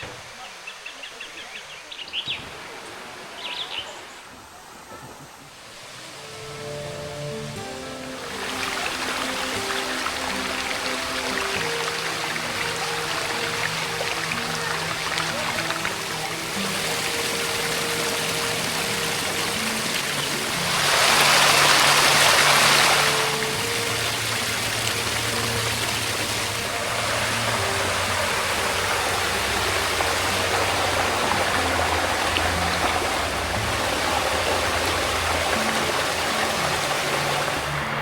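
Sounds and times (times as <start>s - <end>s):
waterfall hissing: 0.0s - 38.0s
soft background music: 5.7s - 38.0s.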